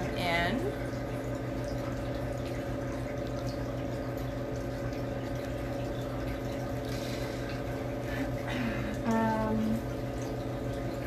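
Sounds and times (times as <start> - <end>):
pump hum: 0.0 - 11.0
running water: 0.0 - 11.0.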